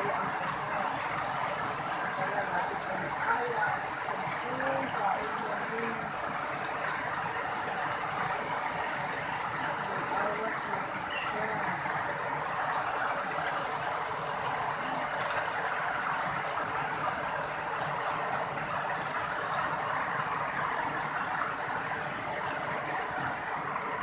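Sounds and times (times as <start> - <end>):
water rushing through channel: 0.0 - 24.0.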